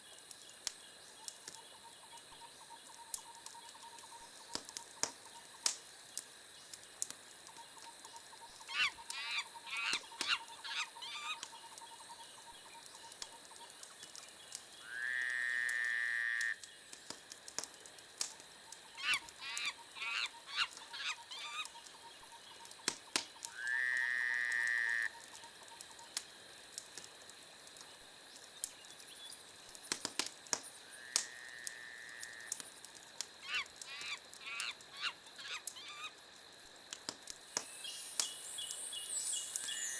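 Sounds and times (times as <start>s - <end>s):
wood fire crackling and popping: 0.0s - 38.8s, 39.5s - 39.8s.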